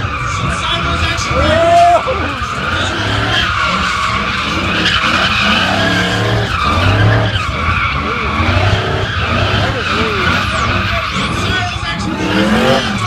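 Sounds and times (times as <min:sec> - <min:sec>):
truck engine revving: 0:00.0 - 0:13.0
tyres screeching on pavement: 0:00.0 - 0:13.0.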